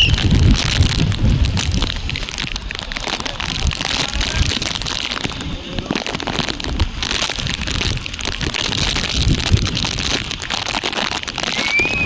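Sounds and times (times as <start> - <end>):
heavy rain falling: 0.0 - 12.0
wind buffeting microphone: 0.0 - 12.0.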